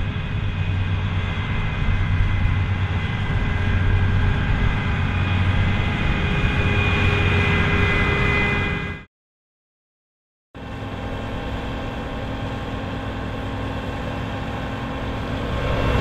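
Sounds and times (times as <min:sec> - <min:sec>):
combine harvester engine hum: 0:00.0 - 0:08.9, 0:10.6 - 0:16.0
high machinery whine: 0:00.0 - 0:09.1, 0:10.6 - 0:16.0.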